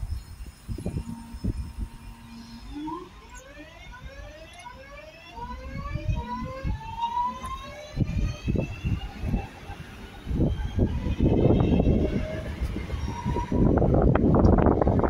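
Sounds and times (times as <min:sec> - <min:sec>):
train traction motors whining: 0:00.0 - 0:15.0.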